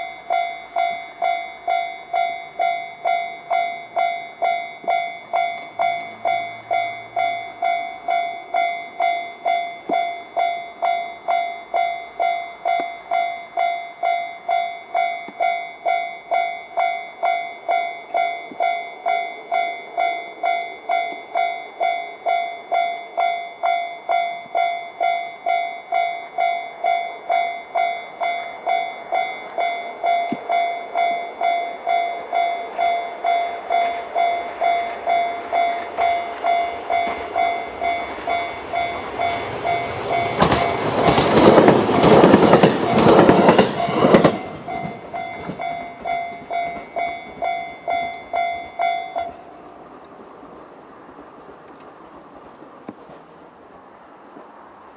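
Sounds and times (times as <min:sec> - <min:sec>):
level crossing bell ringing: 0:00.0 - 0:41.5, 0:42.3 - 0:49.4
electric train passing: 0:00.0 - 0:54.9.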